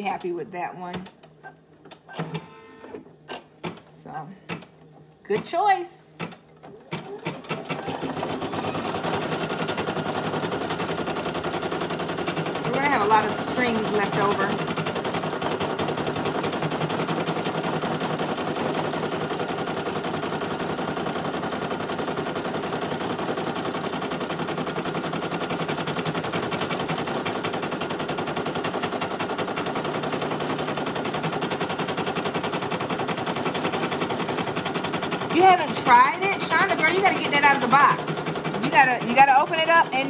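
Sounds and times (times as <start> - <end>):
embroidery machine stitching: 4.5 - 40.0.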